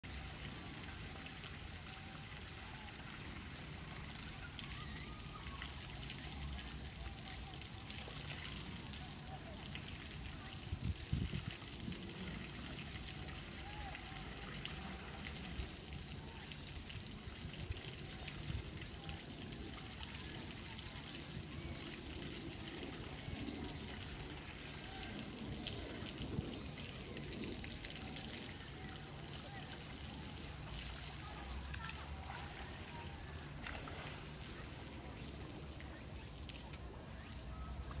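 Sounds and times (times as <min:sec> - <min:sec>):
faint distant voices: 0:00.0 - 0:38.0
water running and lapping: 0:00.0 - 0:38.0.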